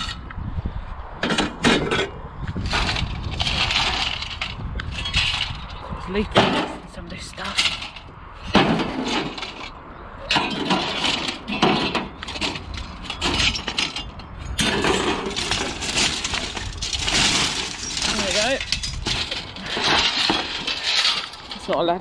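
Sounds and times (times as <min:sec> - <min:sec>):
scrap metal clattering: 0:01.2 - 0:22.0.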